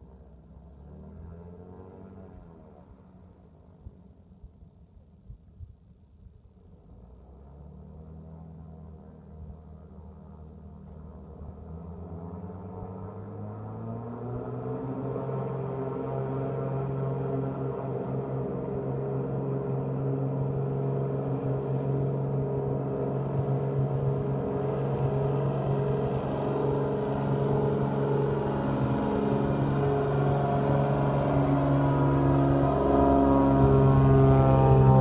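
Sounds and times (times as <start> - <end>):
propeller plane engines at full power: 0.0 - 35.0.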